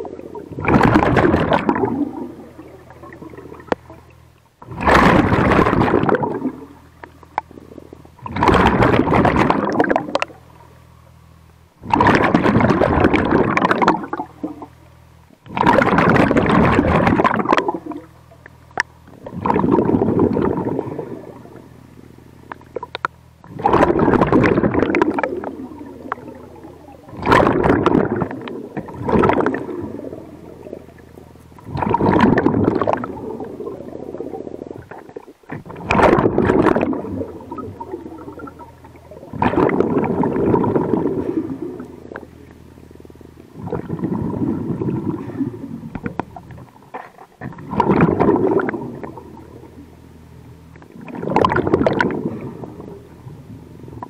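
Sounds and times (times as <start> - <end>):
diver exhaling bubbles underwater: 0.0 - 10.4, 11.8 - 14.7, 15.4 - 18.2, 19.1 - 21.8, 22.5 - 42.6, 43.5 - 49.9, 50.8 - 54.0
steady low hum: 0.0 - 54.0.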